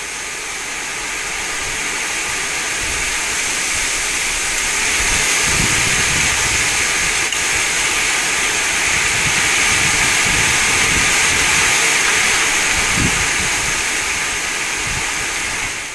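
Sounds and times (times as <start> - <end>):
wind through trees: 0.0 - 15.9
wind buffeting microphone: 1.5 - 15.9.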